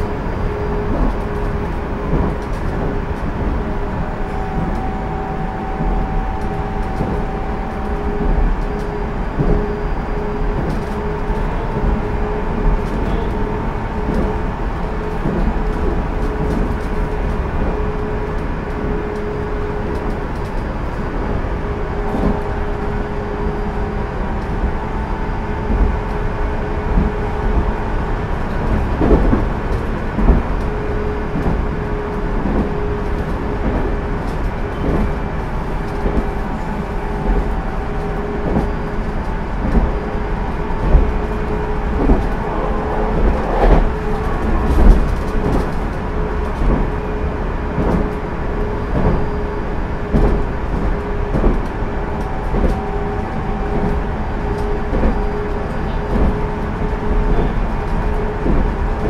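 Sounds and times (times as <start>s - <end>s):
track knocks: 0.0s - 19.3s, 28.5s - 48.3s, 50.0s - 59.0s
train wheels rumbling on rail: 0.0s - 59.0s.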